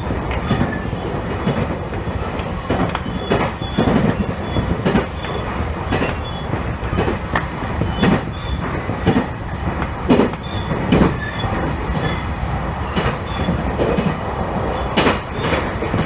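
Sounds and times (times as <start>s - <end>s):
rail joint clicks: 0.0s - 16.0s
train wheels rumbling on rail: 0.0s - 16.0s.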